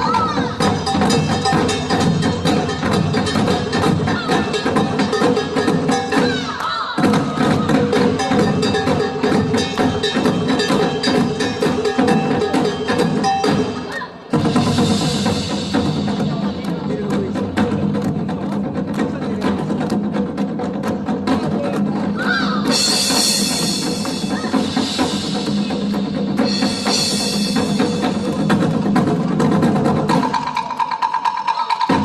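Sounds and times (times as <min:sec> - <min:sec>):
percussion ensemble drumming: 0:00.0 - 0:32.0.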